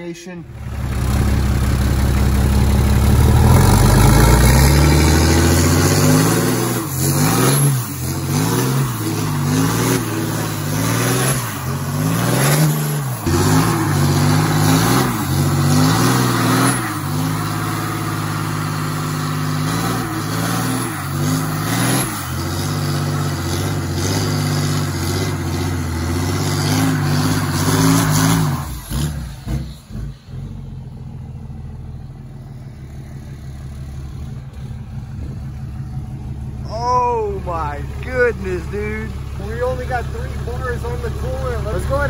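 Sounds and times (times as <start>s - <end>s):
diesel engine revving: 0.0s - 42.0s
tires spinning on pavement: 0.5s - 42.0s.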